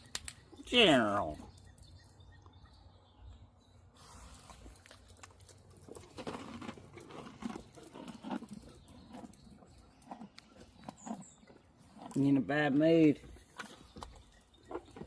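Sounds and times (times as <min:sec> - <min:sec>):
horse crunching and clicking: 0:00.0 - 0:02.9, 0:04.3 - 0:15.0.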